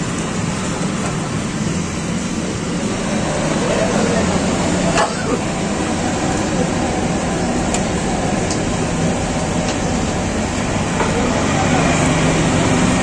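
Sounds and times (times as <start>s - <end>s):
street background hum and hiss: 0.0s - 13.0s.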